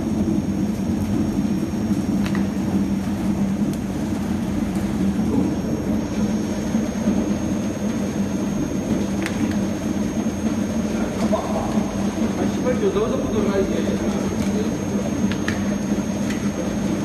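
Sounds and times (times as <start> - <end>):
machine motor hum and rumble: 0.0 - 17.0.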